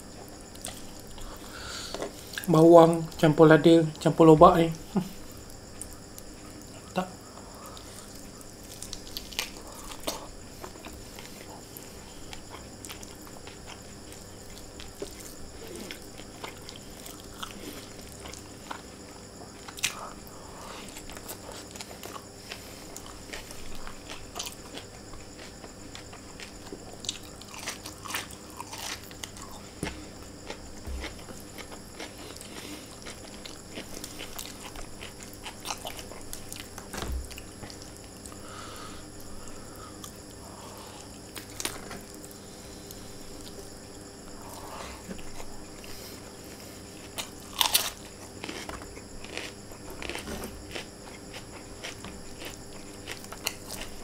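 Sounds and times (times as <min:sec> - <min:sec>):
man chewing food: 0:00.0 - 0:03.2, 0:04.9 - 0:54.0.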